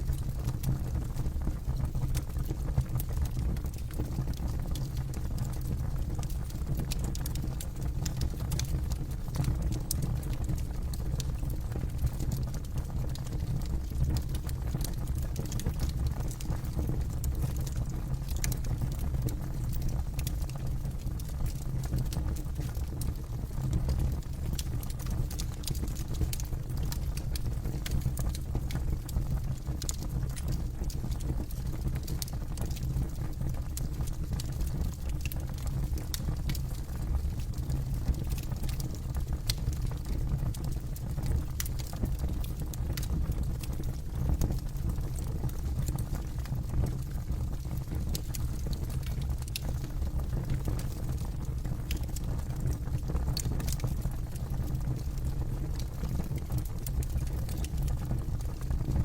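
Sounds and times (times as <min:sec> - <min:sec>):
campfire flames rumbling: 0:00.0 - 0:59.0
wood crackling and popping: 0:00.1 - 0:58.8.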